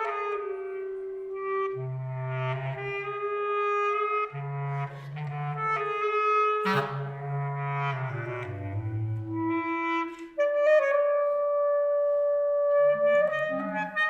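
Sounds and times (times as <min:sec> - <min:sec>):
clarinet trio playing: 0:00.0 - 0:14.0.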